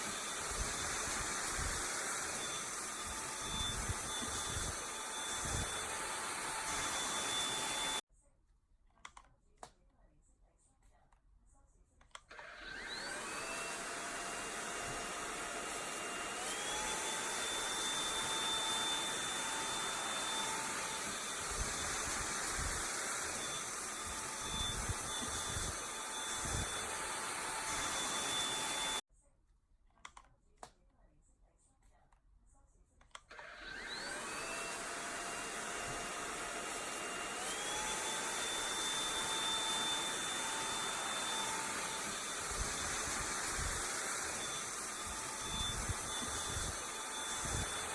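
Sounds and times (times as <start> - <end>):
robot vacuum motor whining: 0.0 - 8.0, 12.3 - 29.0, 33.3 - 47.9.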